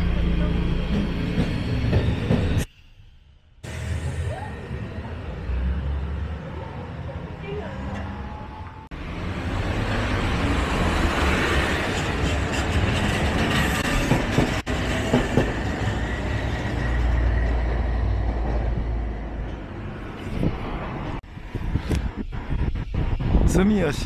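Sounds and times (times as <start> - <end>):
streetcar rumbling on rails: 0.0 - 2.7, 3.6 - 24.0.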